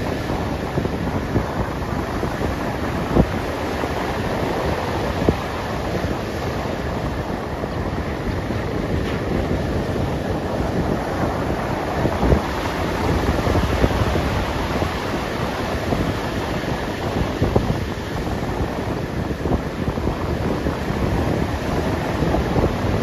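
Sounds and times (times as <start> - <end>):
ocean surf washing up beach: 0.0 - 23.0
wind buffeting microphone: 0.0 - 23.0.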